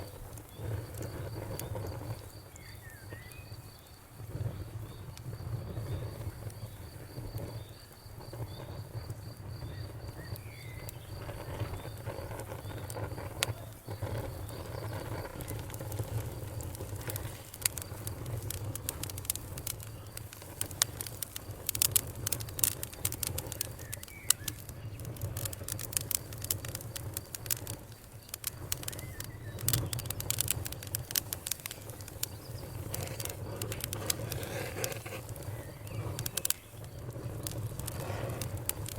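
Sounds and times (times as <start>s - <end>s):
wood fire crackling: 0.0s - 38.9s
sharp pops and snaps: 4.3s - 38.9s.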